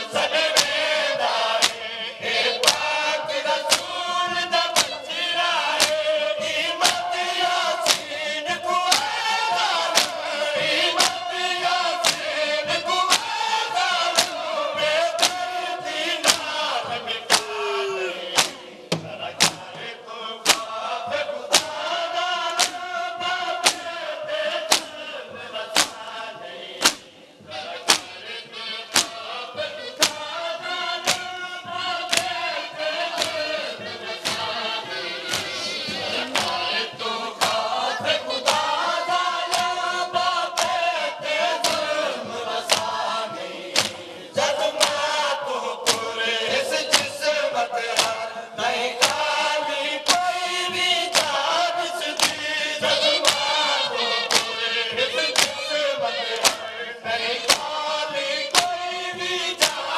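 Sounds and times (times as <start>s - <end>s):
men chanting in unison: 0.0s - 59.9s
rhythmic chest-beating slaps: 0.0s - 59.9s.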